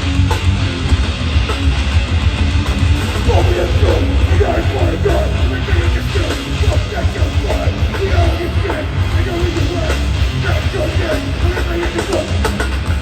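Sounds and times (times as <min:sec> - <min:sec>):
distorted guitars: 0:00.0 - 0:13.0
drums: 0:00.0 - 0:13.0
heavy bass: 0:00.0 - 0:13.0.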